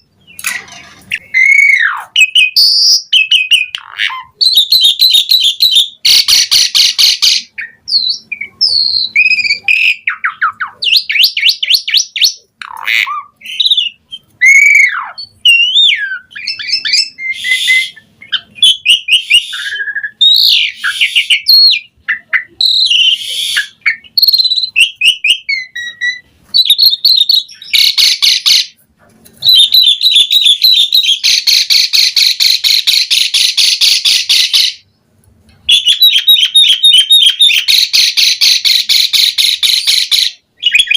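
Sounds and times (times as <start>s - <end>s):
starling singing: 0.0s - 28.8s, 29.4s - 34.9s, 35.7s - 40.9s.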